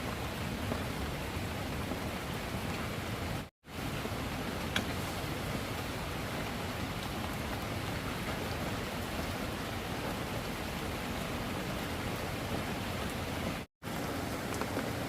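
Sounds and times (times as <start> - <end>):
heavy rainfall hiss: 0.0 - 15.0
raindrops ticking: 0.0 - 15.0.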